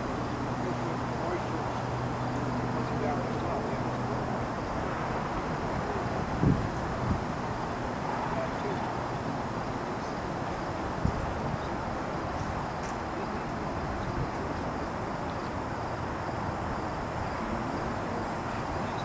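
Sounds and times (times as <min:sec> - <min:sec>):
distant vehicle noise: 0:00.0 - 0:19.0.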